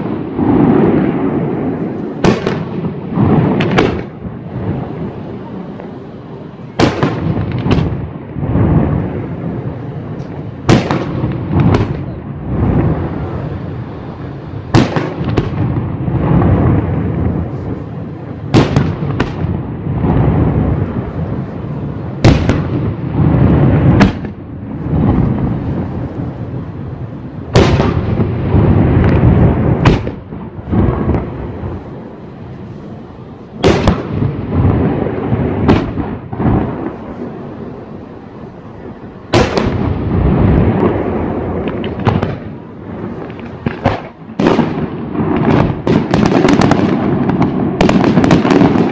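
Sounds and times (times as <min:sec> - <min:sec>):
firework bangs: 0:00.0 - 0:48.9
rumble of firework bursts: 0:00.0 - 0:48.9.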